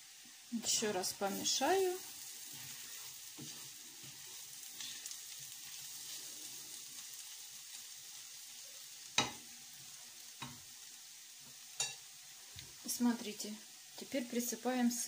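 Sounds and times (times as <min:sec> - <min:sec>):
mushrooms sizzling in a frying pan: 0:00.0 - 0:15.0.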